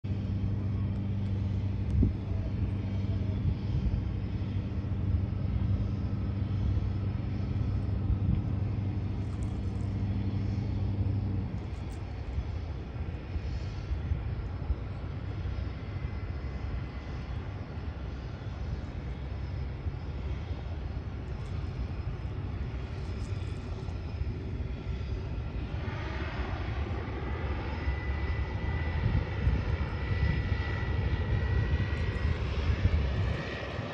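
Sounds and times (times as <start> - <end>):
steady low hum: 0.0 - 33.9
turboprop engine whine: 0.0 - 33.9.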